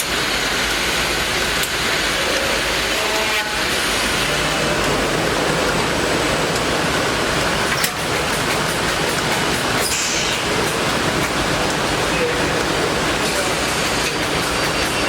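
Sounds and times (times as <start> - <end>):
cnc machine rushing noise: 0.0 - 15.0.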